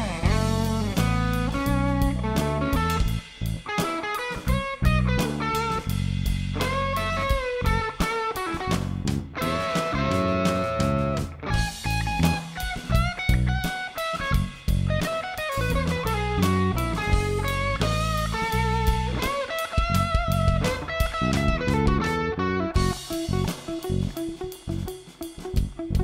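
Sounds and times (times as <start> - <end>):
electric guitar melody: 0.0 - 26.0
rock band playing: 0.0 - 26.0.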